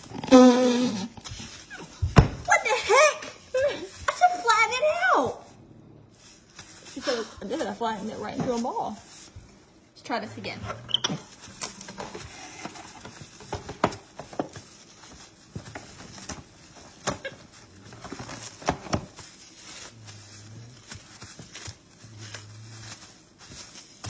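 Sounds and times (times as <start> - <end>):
cling wrap crinkling: 0.0 - 5.5, 6.1 - 9.6, 10.8 - 24.0.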